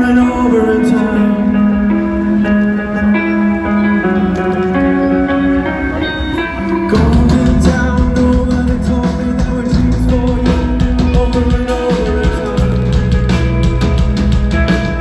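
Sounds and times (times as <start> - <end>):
heavy rock band playing: 0.0 - 15.0
picked guitar line: 0.0 - 15.0.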